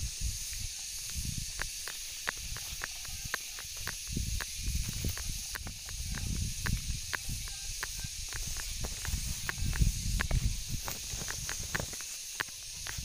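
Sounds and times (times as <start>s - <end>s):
steady high hiss: 0.0s - 13.0s
footsteps on dry leaves: 1.0s - 13.0s.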